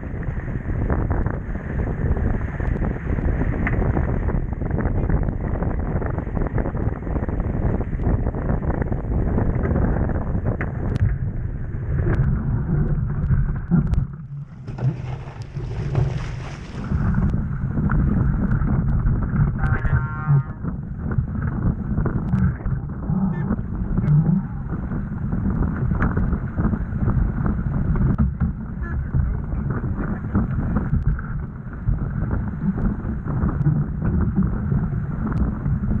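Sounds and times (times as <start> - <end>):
water rushing along hull: 0.0 - 36.0
wind buffeting microphone: 0.0 - 36.0.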